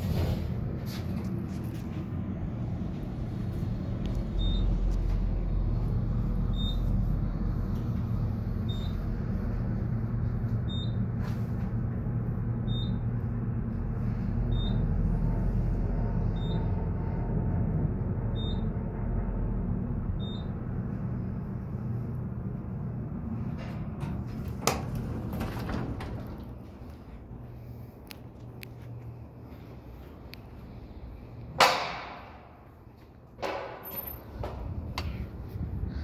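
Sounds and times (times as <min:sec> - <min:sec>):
elevator car humming: 0:00.0 - 0:36.0.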